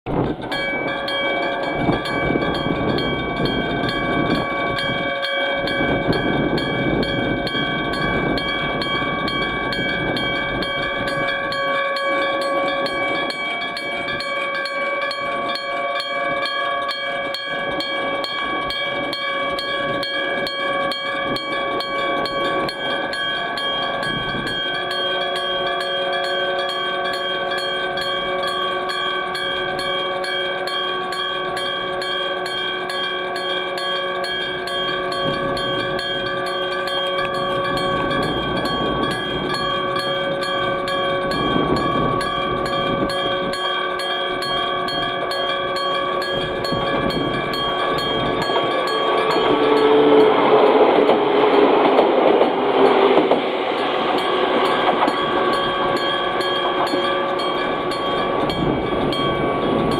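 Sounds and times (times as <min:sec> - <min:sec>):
passing train rumble: 0:00.1 - 0:59.9
electric alarm bell ringing: 0:00.3 - 0:51.6, 0:53.7 - 0:59.9.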